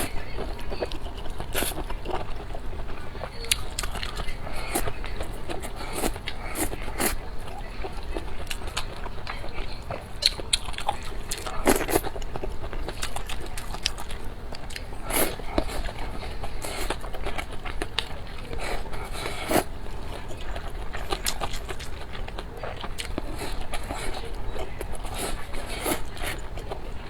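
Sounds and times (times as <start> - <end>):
close-miked chewing and crunching: 0.0 - 27.0.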